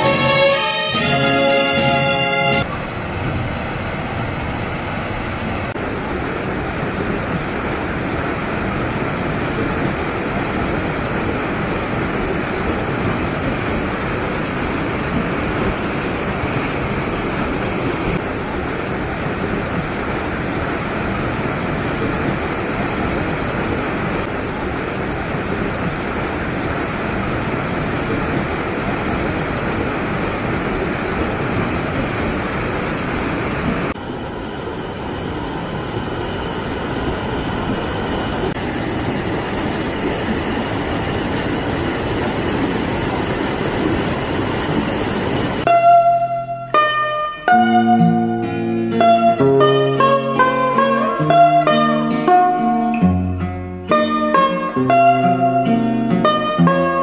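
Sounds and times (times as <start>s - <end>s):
water rushing over rapids: 0.0s - 53.1s.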